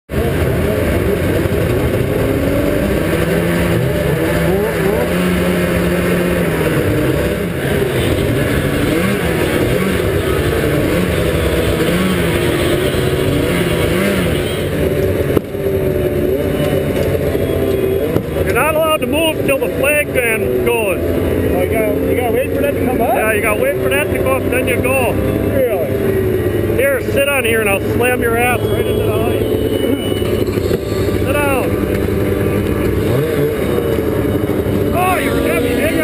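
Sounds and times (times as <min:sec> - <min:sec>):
snowmobile engines revving: 0:00.1 - 0:36.0.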